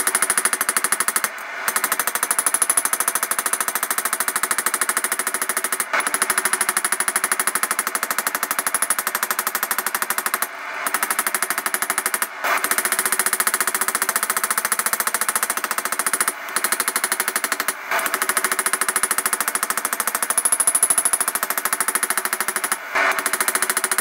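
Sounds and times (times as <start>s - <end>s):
rapid hammer blows on steel: 0.0s - 24.0s.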